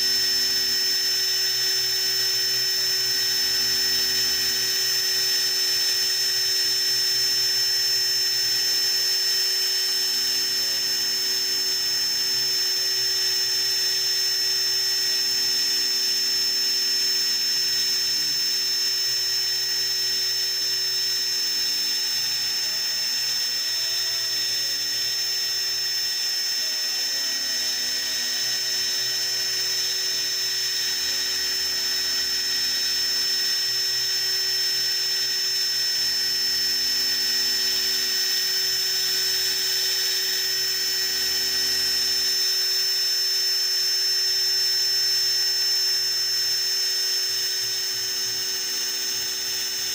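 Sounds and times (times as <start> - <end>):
lower motor hum: 0.0 - 49.9
machine spindle whine: 0.0 - 49.9.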